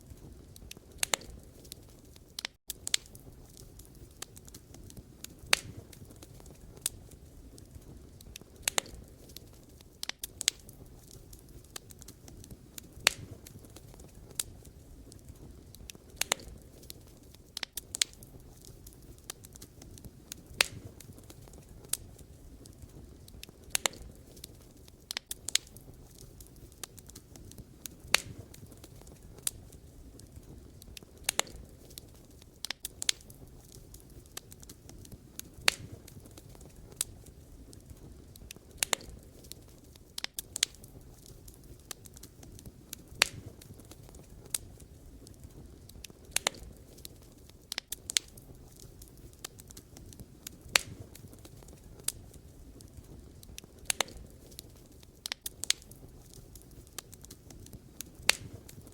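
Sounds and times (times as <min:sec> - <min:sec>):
low rumble of flame: 0:00.0 - 0:58.9
wood fire crackling and popping: 0:00.0 - 0:58.9.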